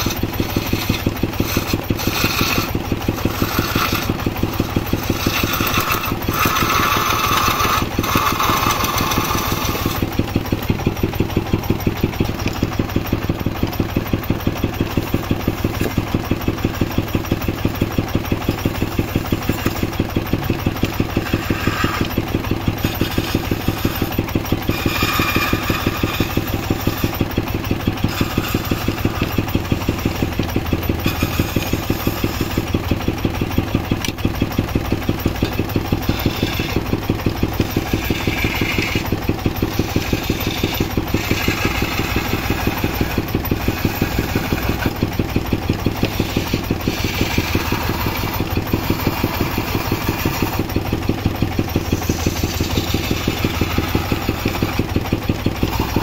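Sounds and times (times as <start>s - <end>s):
chisel scraping spinning wood: 0.0s - 56.0s
engine running with rapid beat: 0.0s - 56.0s.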